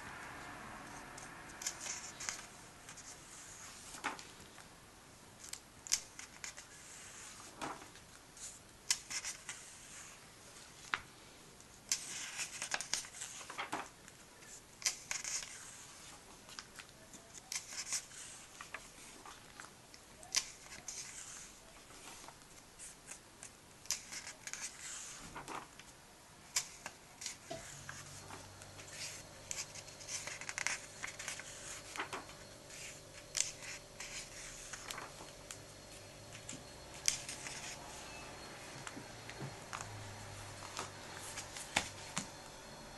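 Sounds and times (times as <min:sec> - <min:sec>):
faint steady hum: 0:00.0 - 0:42.9
paper pages turning: 0:00.9 - 0:04.7, 0:05.4 - 0:11.1, 0:11.9 - 0:38.0, 0:39.4 - 0:42.4.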